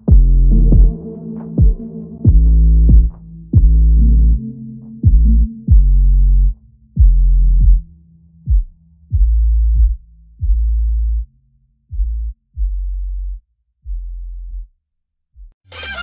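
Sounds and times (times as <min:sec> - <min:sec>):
deep bass notes: 0:00.0 - 0:15.6.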